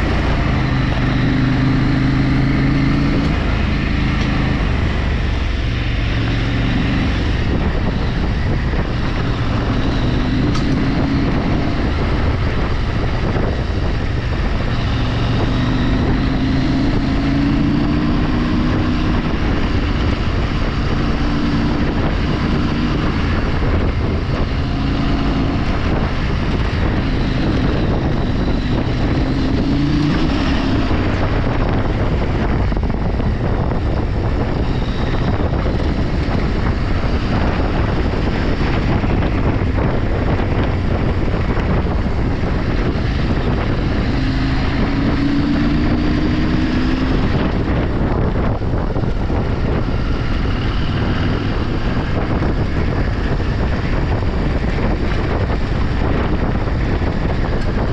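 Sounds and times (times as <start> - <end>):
vehicle engine running: 0.0 - 57.9
wind noise on microphone: 0.0 - 57.9.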